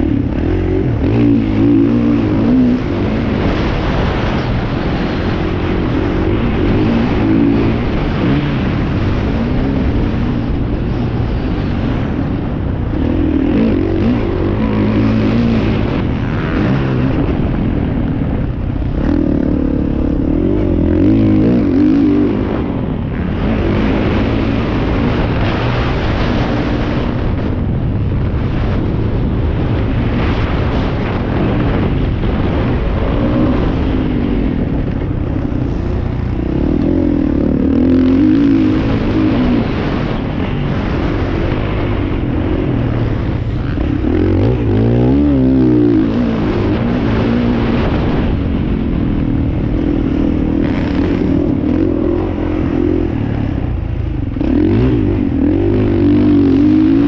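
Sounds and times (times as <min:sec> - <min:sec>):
low rumble: 0:00.0 - 0:57.0
motorbike engines revving: 0:00.0 - 0:57.0.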